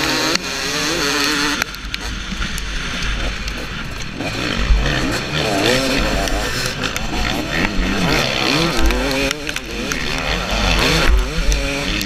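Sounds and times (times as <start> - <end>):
motocross bike engine: 0.0 - 12.0.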